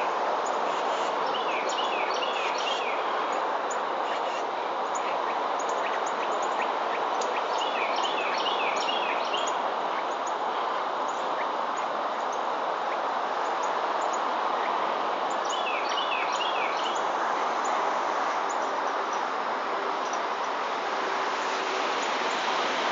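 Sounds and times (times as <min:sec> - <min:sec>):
outdoor background hiss: 0:00.0 - 0:22.9.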